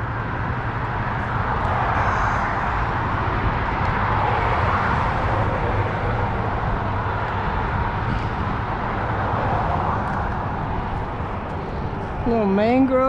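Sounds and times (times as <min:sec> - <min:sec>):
low hum: 0:00.0 - 0:13.0
steady outdoor rushing noise: 0:00.0 - 0:13.0.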